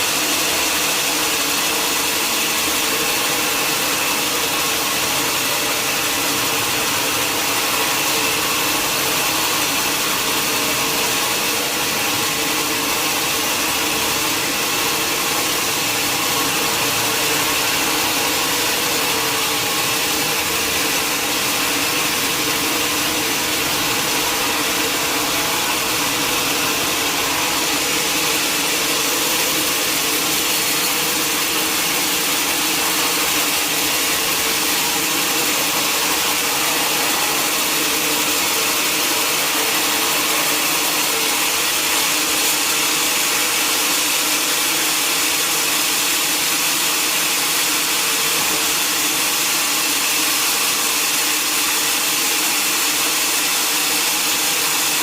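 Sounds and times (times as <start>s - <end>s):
sawmill machinery whine: 0.0s - 55.0s.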